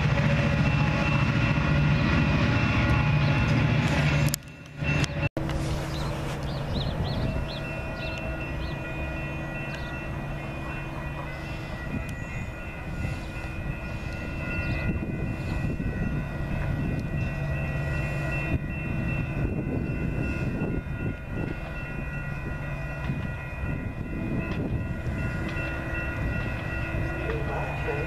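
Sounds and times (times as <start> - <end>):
diesel train rumbling: 0.0 - 28.0.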